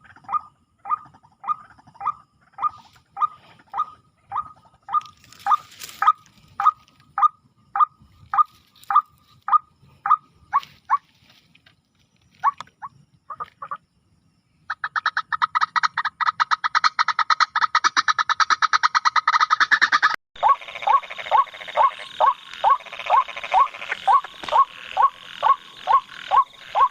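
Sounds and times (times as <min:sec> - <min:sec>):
waterhen croaking calls: 0:00.0 - 0:11.0, 0:14.7 - 0:26.9.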